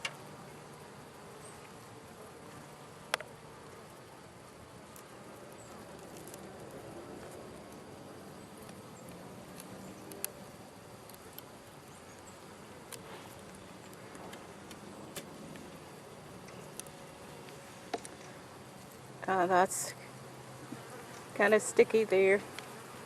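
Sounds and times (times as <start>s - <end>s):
honey bees buzzing: 0.0s - 23.0s.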